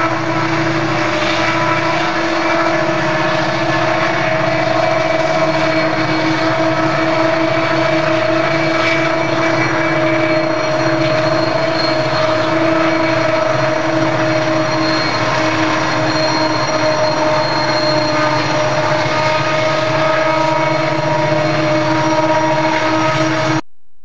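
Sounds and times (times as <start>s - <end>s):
diesel locomotives droning: 0.0s - 23.6s.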